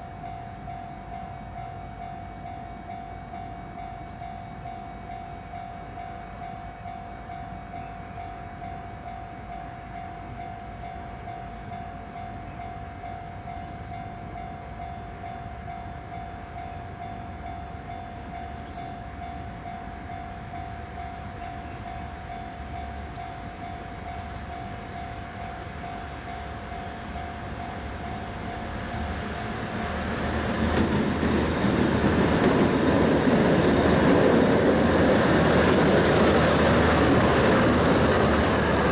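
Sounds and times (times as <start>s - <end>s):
freight train passing: 0.0s - 38.9s.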